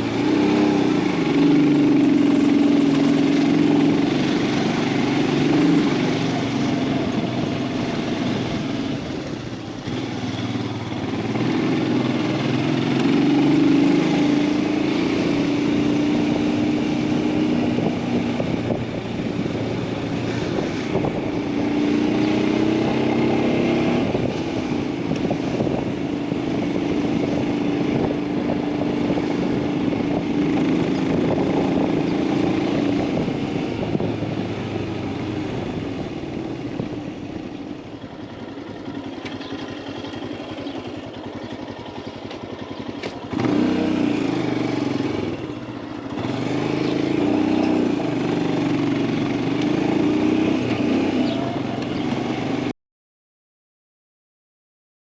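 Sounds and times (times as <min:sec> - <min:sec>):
motorcycle engine running: 0:00.0 - 0:52.7
wind and road noise: 0:00.0 - 0:52.8.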